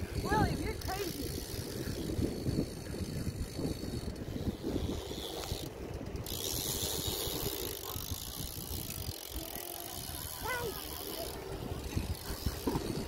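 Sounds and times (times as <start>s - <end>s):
bike freewheel hub ratcheting: 0.0s - 13.0s
bike tyres rolling: 0.0s - 13.0s
wind rumbling on microphone: 0.0s - 13.0s.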